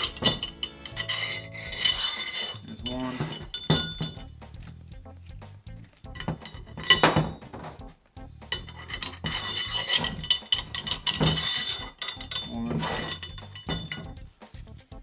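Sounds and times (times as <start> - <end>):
metal parts clinking and rattling: 0.0 - 7.8, 8.5 - 15.0
quiet background music: 0.0 - 15.0.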